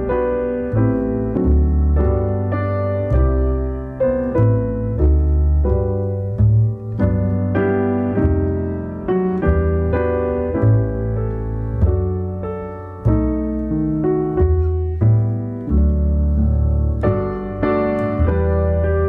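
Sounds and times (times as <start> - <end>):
slow piano piece: 0.0 - 19.0.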